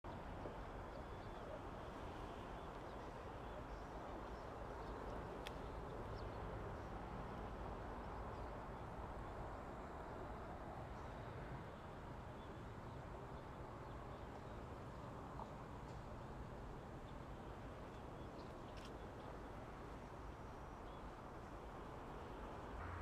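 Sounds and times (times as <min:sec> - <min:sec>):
distant train rumble: 0:00.1 - 0:23.0.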